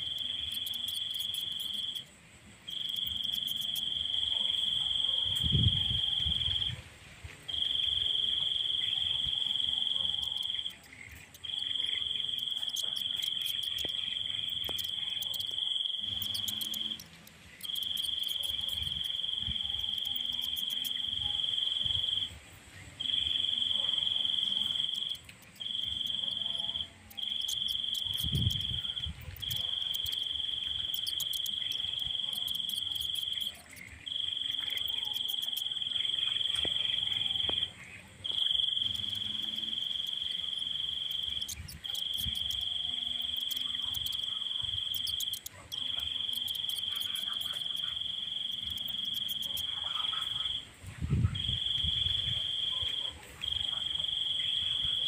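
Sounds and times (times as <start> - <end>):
high-pitched insect trill: 0.0 - 2.1, 2.7 - 6.8, 7.5 - 22.4, 23.0 - 50.7, 51.3 - 55.0.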